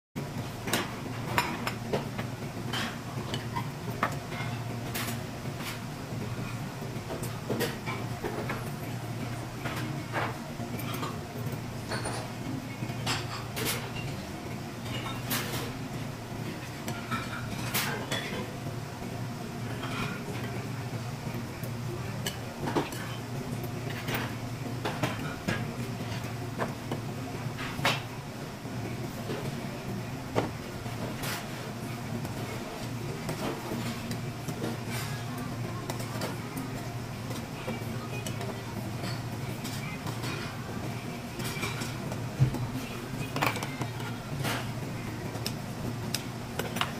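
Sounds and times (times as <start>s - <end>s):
restaurant background hum: 0.2s - 46.9s.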